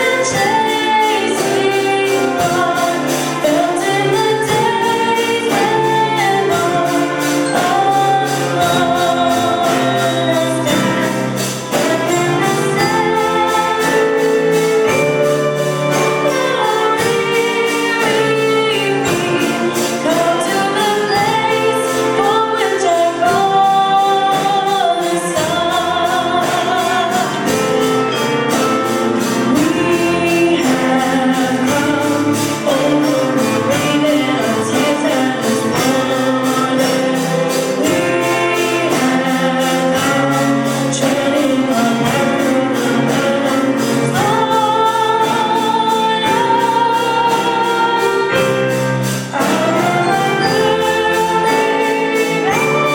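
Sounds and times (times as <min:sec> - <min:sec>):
gospel choir singing: 0:00.0 - 0:52.9
instrumental accompaniment with beat: 0:00.0 - 0:52.9.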